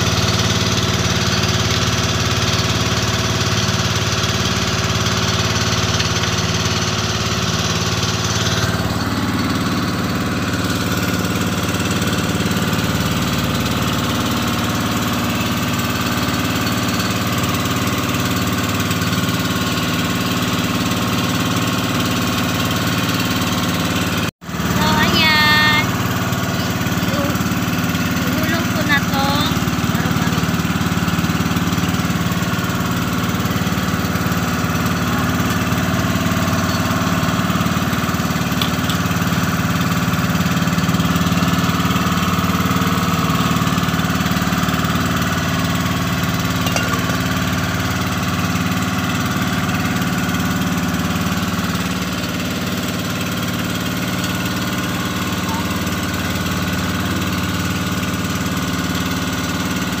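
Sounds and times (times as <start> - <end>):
boat engine running: 0.0 - 60.0.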